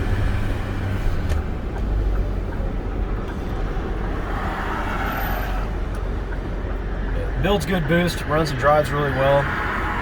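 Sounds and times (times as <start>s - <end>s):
diesel engine running: 0.0s - 10.0s
road noise: 0.0s - 10.0s.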